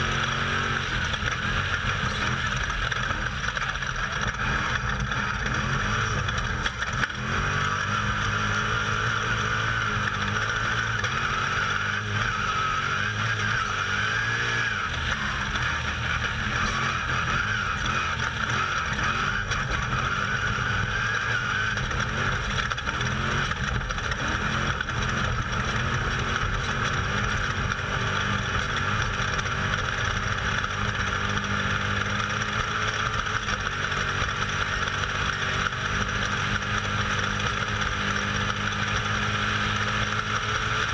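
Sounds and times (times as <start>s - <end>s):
race vehicle engine revving: 0.0s - 40.9s.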